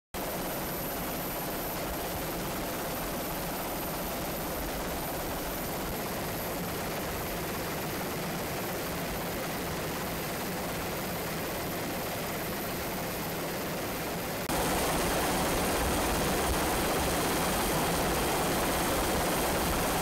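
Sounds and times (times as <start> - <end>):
aircraft engine and rotor drone: 0.2 - 20.0.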